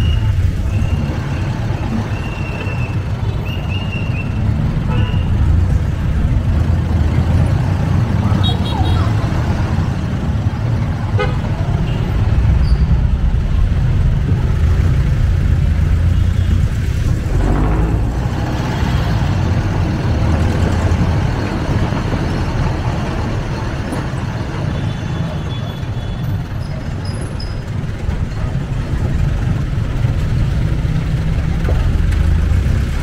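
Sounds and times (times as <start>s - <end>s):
engine rumbling: 0.0s - 33.0s
road noise: 0.0s - 33.0s.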